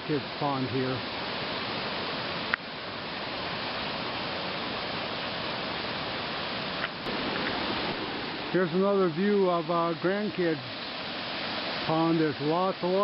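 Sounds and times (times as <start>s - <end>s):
water rushing over outflow: 0.0s - 13.0s.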